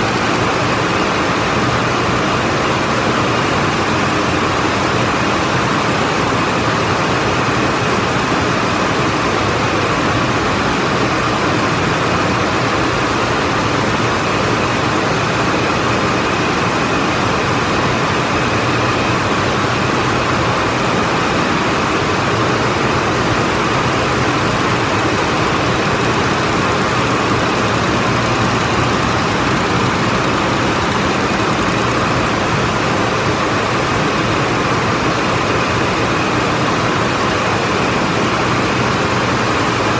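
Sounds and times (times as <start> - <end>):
weaving looms mechanical din: 0.0 - 39.9.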